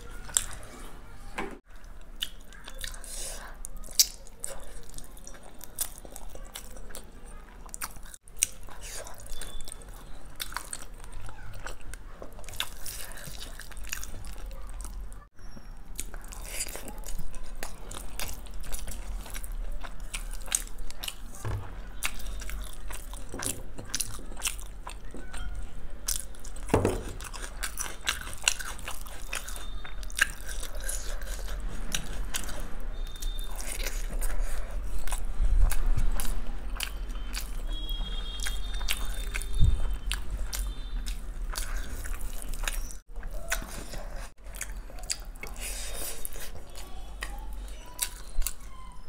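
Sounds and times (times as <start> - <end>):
person chewing food: 0.0 - 0.8, 1.6 - 15.3, 15.9 - 49.0.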